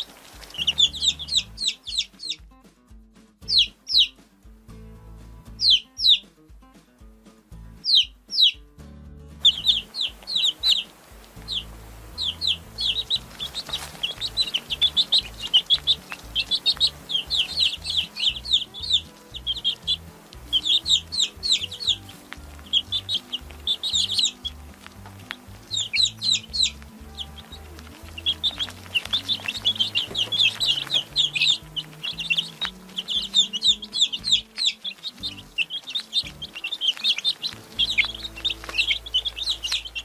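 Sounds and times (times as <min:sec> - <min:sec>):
baby chicks peeping: 0:00.0 - 0:02.5, 0:03.4 - 0:04.2, 0:05.4 - 0:06.4, 0:07.6 - 0:08.7, 0:09.3 - 0:40.0.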